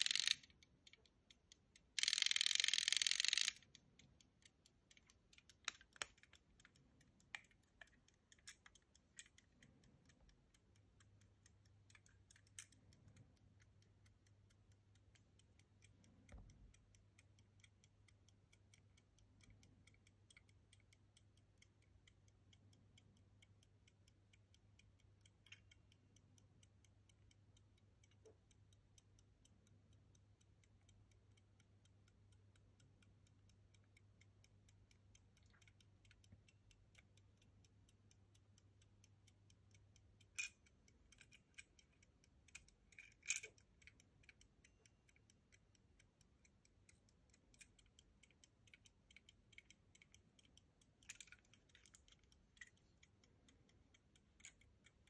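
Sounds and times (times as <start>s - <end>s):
pocket watch ticking: 0.0s - 55.0s.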